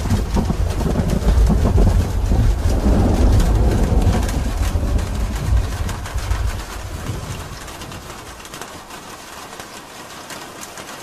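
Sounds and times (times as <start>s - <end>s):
thunder rumbling: 0.0s - 9.4s
rain on a roof: 0.0s - 11.0s.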